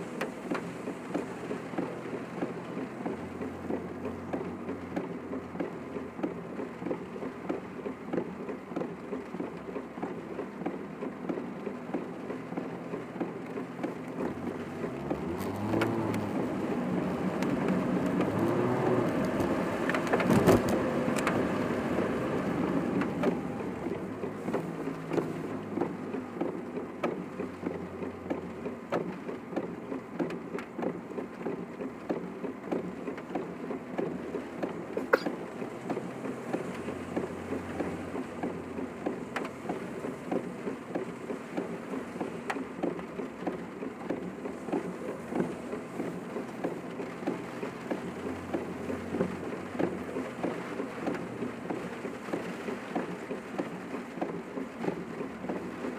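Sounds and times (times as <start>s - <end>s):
car engine and tyre noise: 0.0s - 55.9s
rain pattering on a car: 0.0s - 55.9s.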